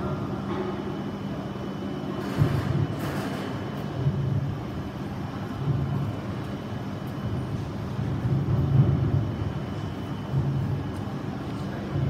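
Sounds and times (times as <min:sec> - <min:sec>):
low rumble of trains and machinery: 0:00.0 - 0:12.0.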